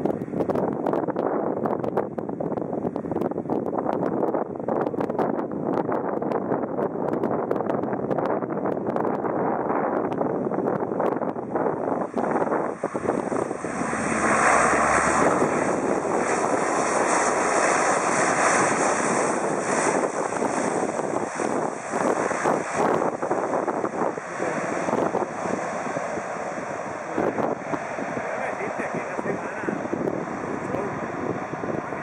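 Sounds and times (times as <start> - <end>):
turboprop aircraft engines: 0.0 - 32.0.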